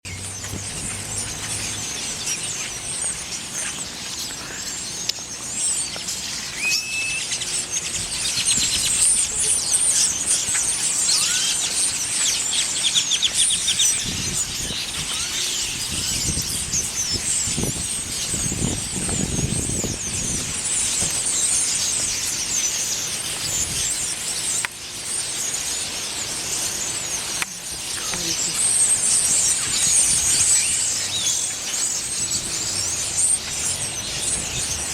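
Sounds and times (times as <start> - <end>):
flock of birds chirping: 0.0 - 34.9.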